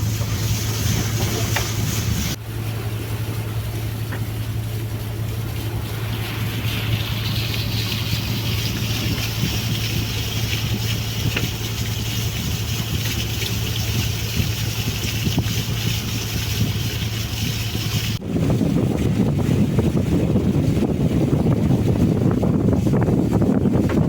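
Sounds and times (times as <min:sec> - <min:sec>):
boat engine droning: 0:00.0 - 0:24.0
water: 0:00.0 - 0:24.0
wind on microphone: 0:00.0 - 0:24.0.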